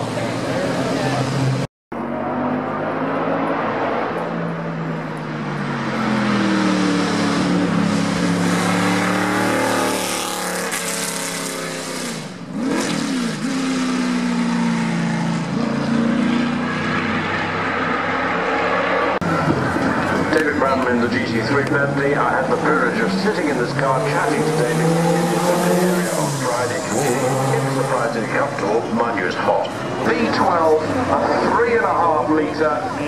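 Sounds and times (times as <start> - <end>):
racing car engine: 0.0 - 33.0.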